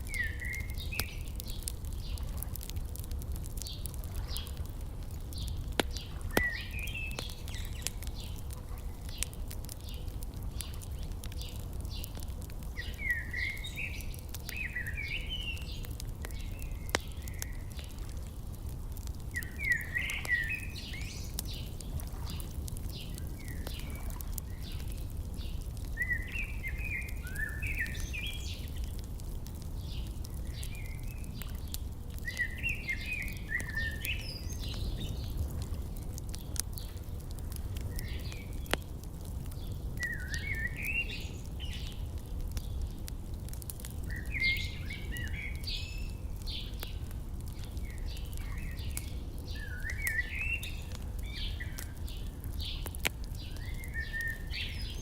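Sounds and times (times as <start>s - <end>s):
songbirds chirping: 0.0s - 55.0s
wood fire crackling: 0.0s - 55.0s.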